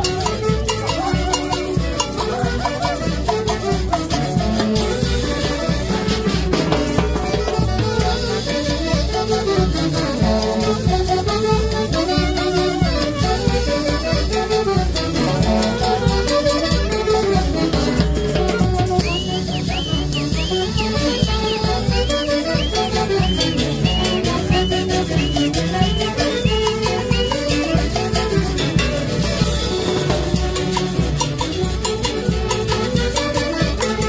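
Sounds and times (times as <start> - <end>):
high bending melodic line: 0.0 - 32.6
live band playing dance music: 0.0 - 34.0
saxophones: 0.0 - 34.0
violin melody: 0.0 - 34.0.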